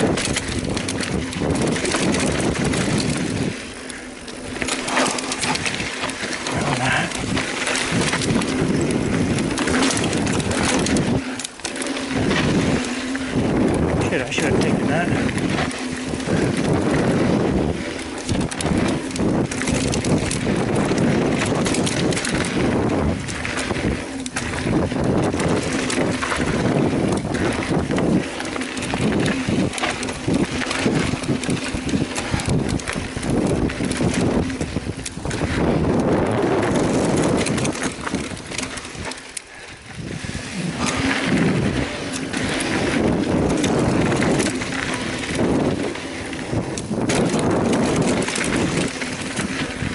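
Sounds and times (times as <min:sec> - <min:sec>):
bike tyres rattling over rocks: 0:00.0 - 0:49.9.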